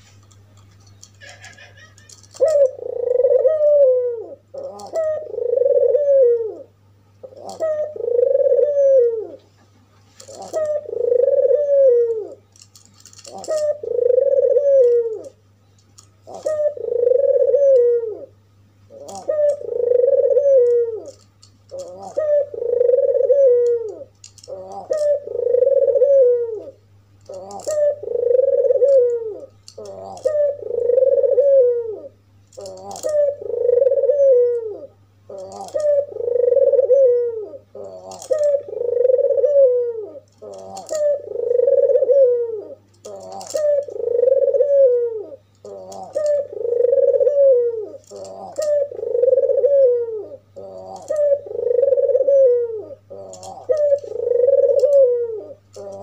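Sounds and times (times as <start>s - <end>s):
steady low hum: 0.0s - 56.0s
dove cooing: 1.0s - 9.5s, 10.1s - 56.0s.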